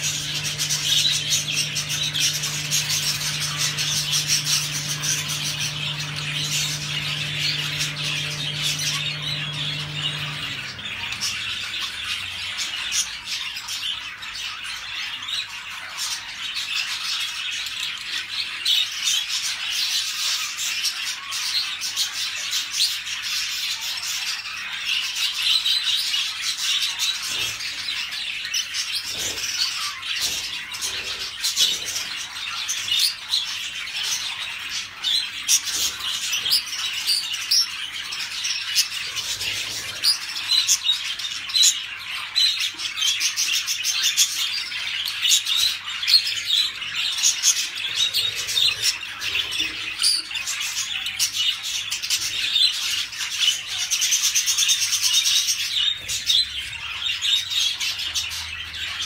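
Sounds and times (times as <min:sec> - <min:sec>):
budgerigars warbling and chattering: 0:00.0 - 0:59.0.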